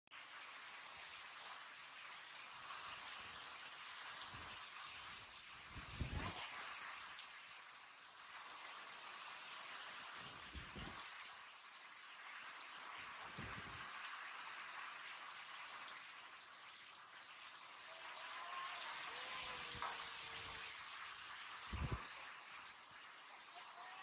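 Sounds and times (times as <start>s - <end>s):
heavy rain on concrete: 0.1s - 24.0s.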